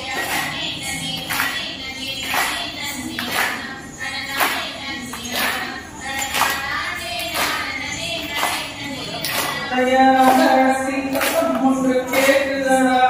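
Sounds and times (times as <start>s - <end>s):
group clapping together: 0.0s - 13.0s.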